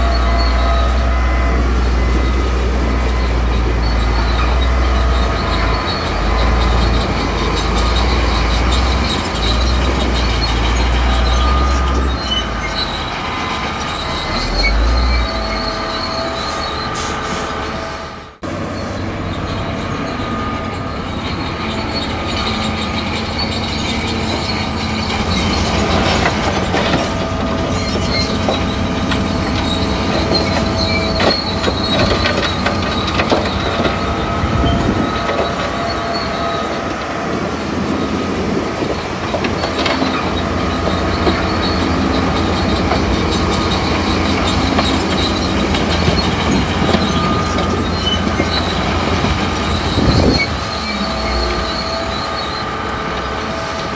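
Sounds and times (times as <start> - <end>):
bulldozer diesel engine: 0.0 - 53.9
high squeal: 0.0 - 53.9
steel tracks clanking: 0.0 - 53.9.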